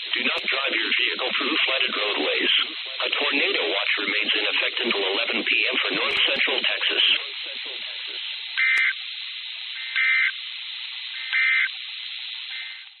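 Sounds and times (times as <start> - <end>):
radio static hiss: 0.0 - 13.0
warbling two-tone data bursts: 0.0 - 13.0.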